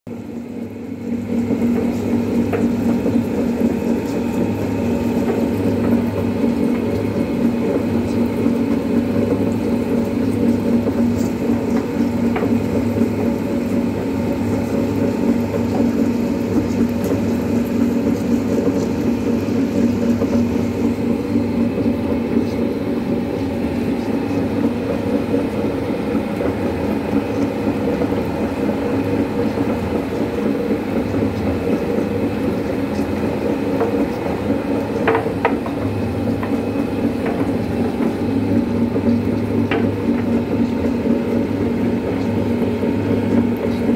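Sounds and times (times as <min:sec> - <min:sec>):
oil mill grinding: 0:00.3 - 0:43.9.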